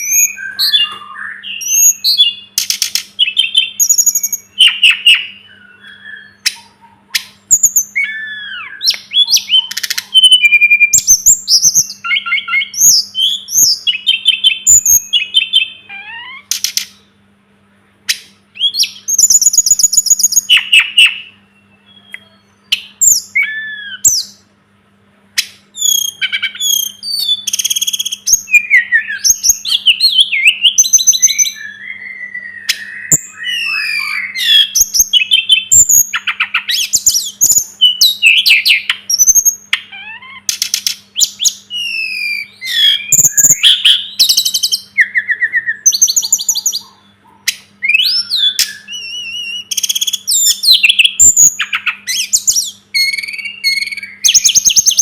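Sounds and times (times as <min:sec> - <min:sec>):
bird singing whistles and trills: 0:00.0 - 0:17.1, 0:18.1 - 0:24.5, 0:25.4 - 0:55.0.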